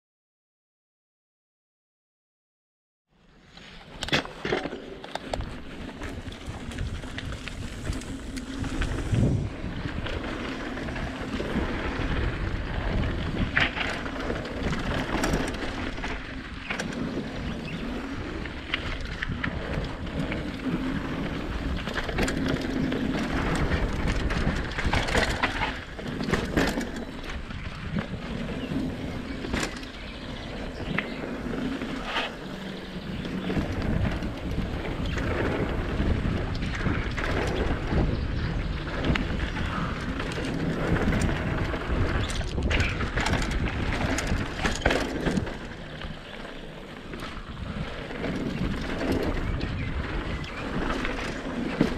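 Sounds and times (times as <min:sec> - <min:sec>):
bike rattling over bumps: 0:03.7 - 0:51.9
tyre and wind rush: 0:03.8 - 0:51.9.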